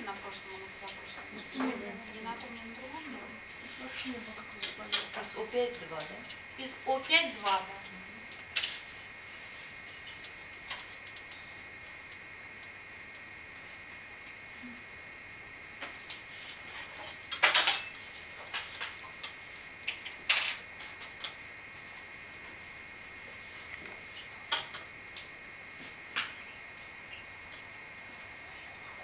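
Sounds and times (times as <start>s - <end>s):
faint high whine: 0.0s - 29.0s.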